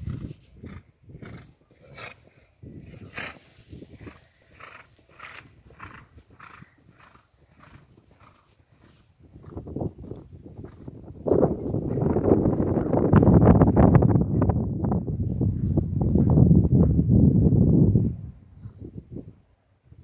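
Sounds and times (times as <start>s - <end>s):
horse hooves galloping on grass: 0.0s - 17.0s
wind rumble on microphone: 0.0s - 20.0s.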